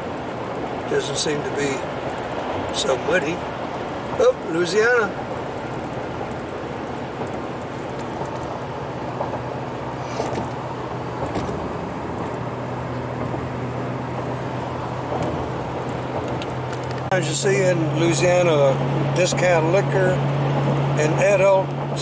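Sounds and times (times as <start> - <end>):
car tyres and engine drone: 0.0 - 22.0.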